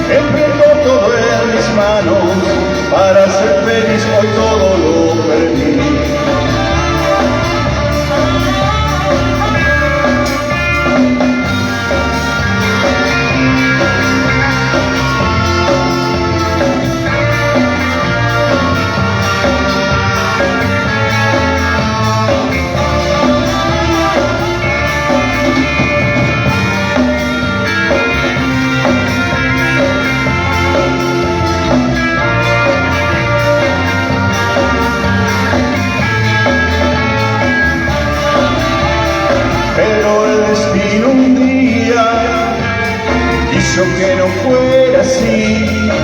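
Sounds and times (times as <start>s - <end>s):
live band slow song: 0.0s - 46.0s.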